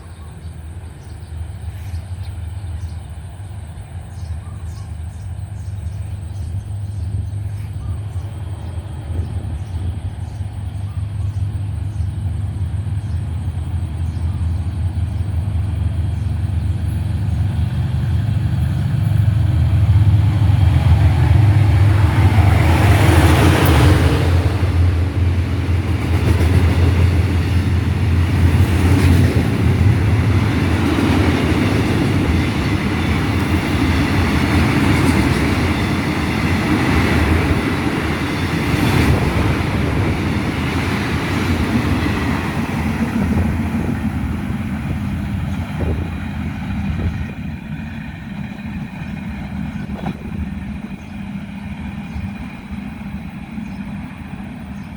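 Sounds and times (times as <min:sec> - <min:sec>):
diesel locomotive engine rumble: 0:00.0 - 0:54.9.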